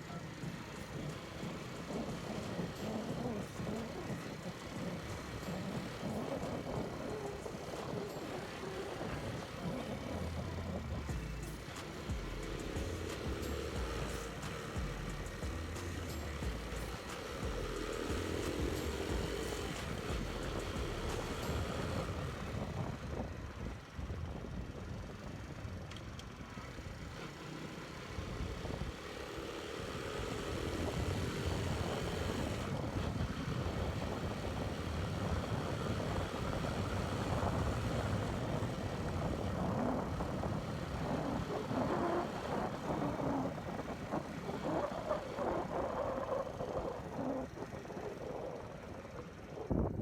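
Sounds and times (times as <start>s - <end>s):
motorcycle engine running: 0.0s - 50.0s
wind and road noise: 0.0s - 50.0s.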